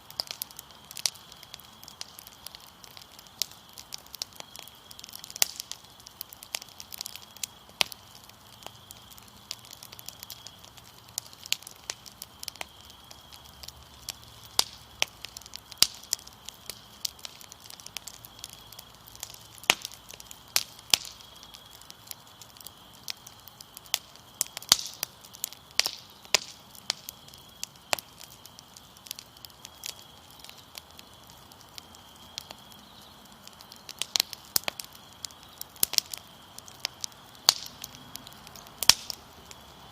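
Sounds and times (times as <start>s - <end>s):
crickets trilling: 0.0s - 39.9s
wood fire crackling and popping: 0.0s - 39.9s.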